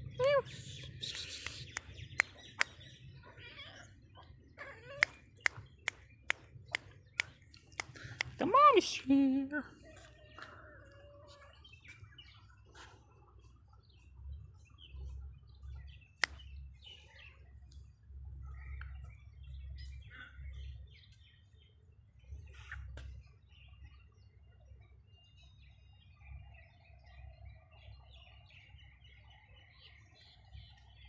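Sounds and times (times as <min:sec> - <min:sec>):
faint bird chirping: 0:00.0 - 0:31.0.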